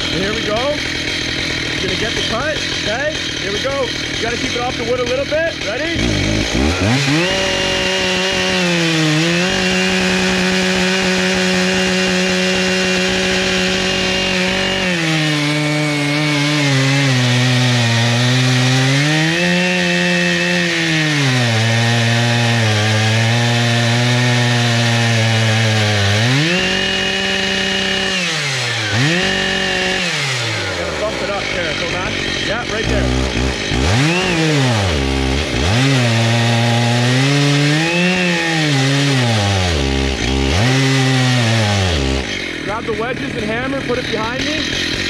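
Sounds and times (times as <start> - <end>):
chainsaw cutting through log: 0.0 - 45.0.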